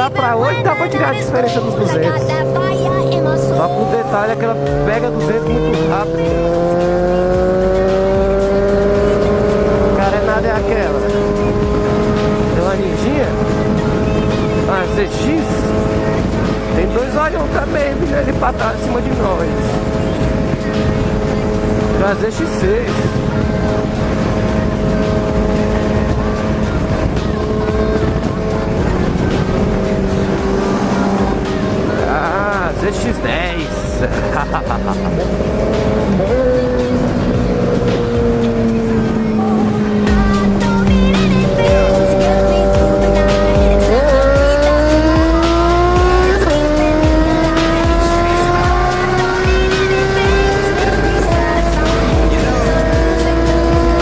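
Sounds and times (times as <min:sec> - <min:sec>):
motorcycle engine cruising: 0:00.0 - 0:54.0
wind rumble on microphone: 0:04.8 - 0:54.0.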